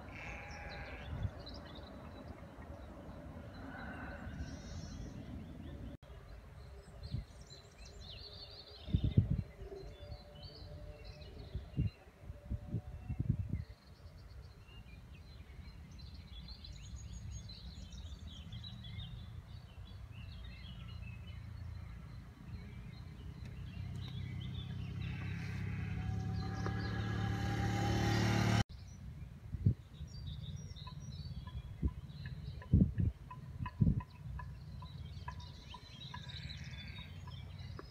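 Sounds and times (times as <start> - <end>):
small birds chirping: 0.1 - 12.0, 13.5 - 37.9.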